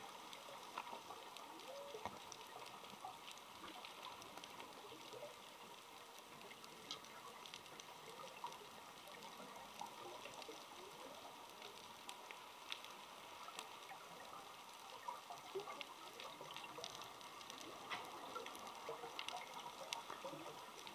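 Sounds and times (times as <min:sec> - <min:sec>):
low steady underwater hiss: 0:00.0 - 0:20.9
sharp clicks and crackles: 0:00.0 - 0:20.9.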